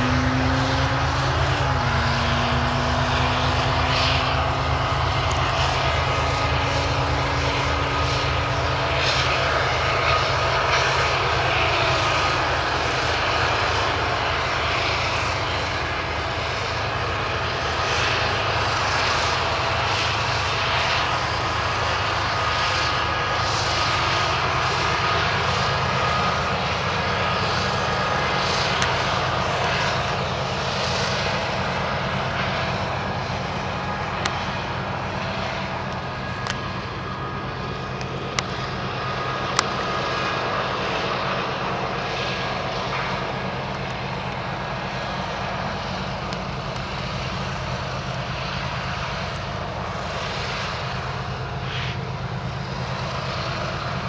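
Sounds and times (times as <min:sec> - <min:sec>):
freight train engine drone: 0:00.0 - 0:54.0.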